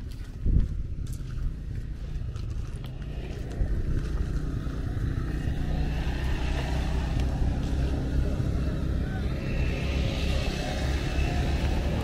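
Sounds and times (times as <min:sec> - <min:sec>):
quad bike engine rumble: 0:00.0 - 0:12.0.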